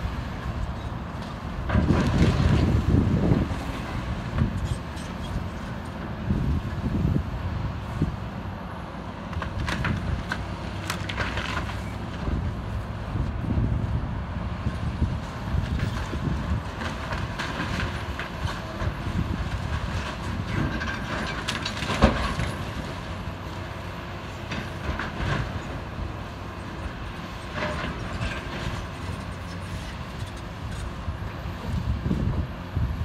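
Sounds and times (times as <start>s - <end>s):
excavator engine rumble: 0.0s - 33.0s.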